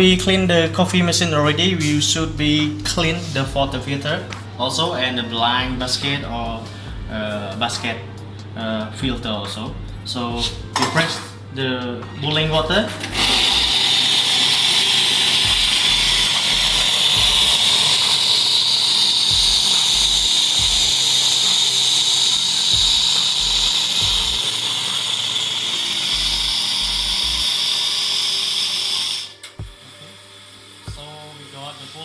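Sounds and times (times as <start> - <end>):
espresso machine hissing hot water: 0.0 - 32.0.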